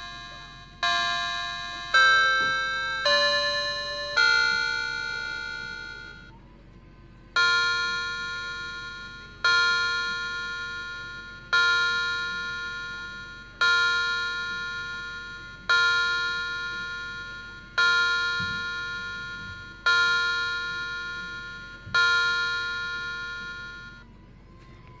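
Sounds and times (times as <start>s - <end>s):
clock chime bell-like tone: 0.0s - 6.3s, 7.4s - 24.1s.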